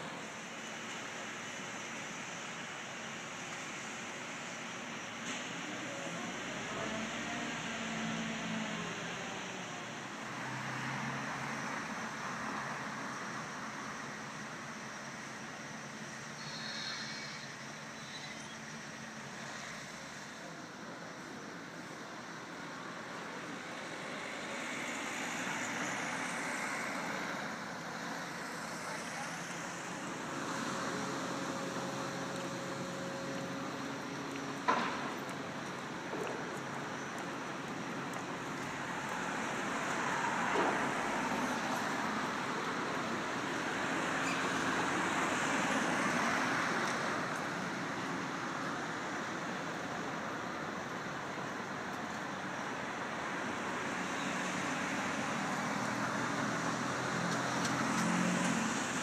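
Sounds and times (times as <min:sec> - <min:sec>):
vehicles passing: 0:05.3 - 0:59.0.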